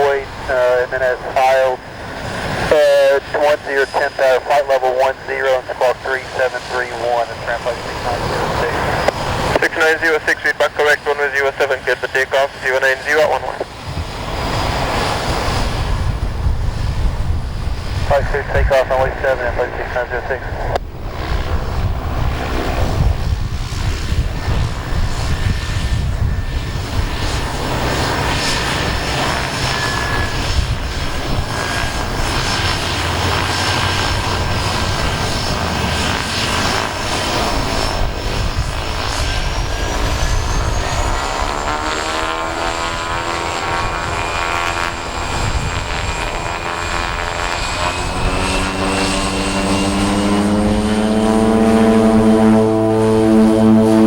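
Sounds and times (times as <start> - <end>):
turboprop engines at takeoff power: 0.0 - 54.0.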